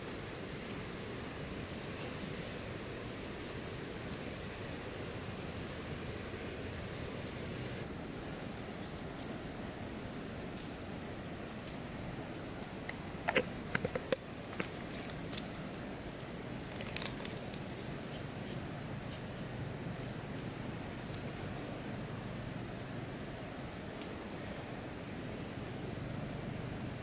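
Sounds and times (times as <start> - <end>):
outdoor hiss: 0.0 - 27.0.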